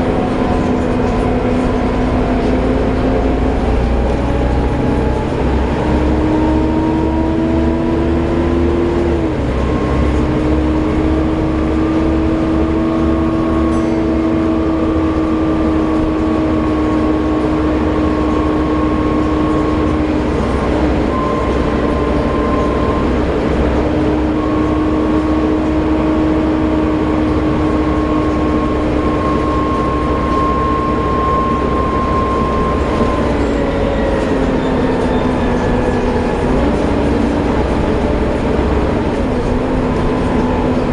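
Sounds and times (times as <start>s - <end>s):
bus engine rumble: 0.0s - 40.9s
bus whine: 0.0s - 40.9s.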